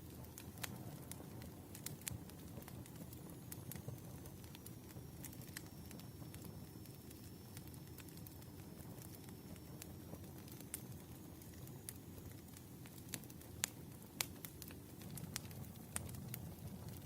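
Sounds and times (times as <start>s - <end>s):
campfire crackling: 0.0s - 17.0s
low rumble of burning: 0.0s - 17.0s.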